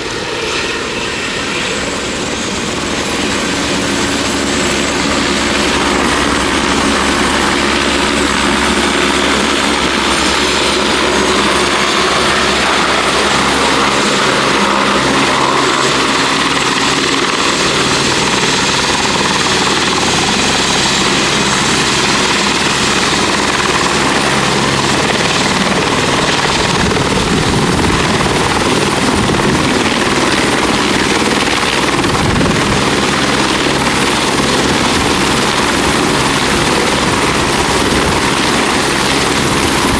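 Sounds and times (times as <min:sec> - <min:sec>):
helicopter rotor and engine: 0:00.0 - 0:39.9
helicopter turbine whine: 0:00.0 - 0:39.9.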